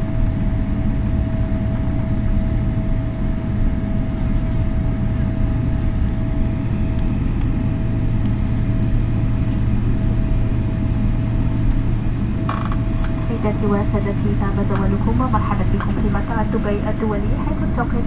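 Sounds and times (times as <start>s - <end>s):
low engine drone and rumble: 0.0s - 18.0s
thin steady whine: 0.0s - 18.0s.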